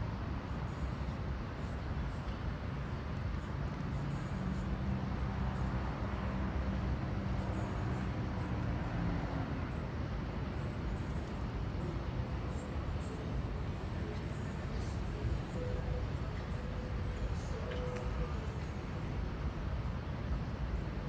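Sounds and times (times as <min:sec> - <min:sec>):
city traffic rumble: 0:00.0 - 0:21.0.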